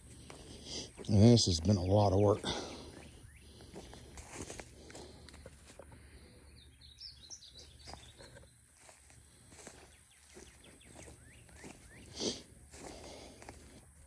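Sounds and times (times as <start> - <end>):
footsteps in brush: 0.0 - 6.2, 7.2 - 14.0
faint woodland ambience: 0.0 - 14.0.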